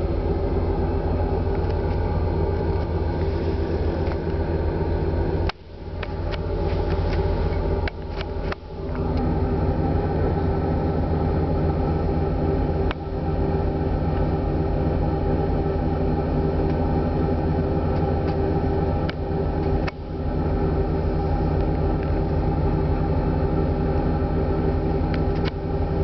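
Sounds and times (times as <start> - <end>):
ferry engines droning: 0.0 - 26.0.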